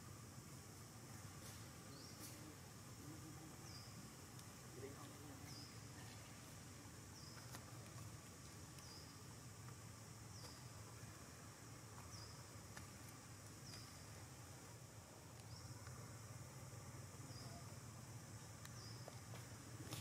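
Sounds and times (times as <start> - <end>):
high insect hiss: 0.0 - 20.0.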